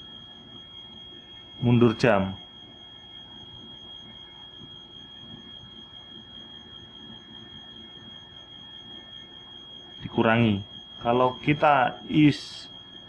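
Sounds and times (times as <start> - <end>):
high-pitched electronic whine: 0.0 - 13.0.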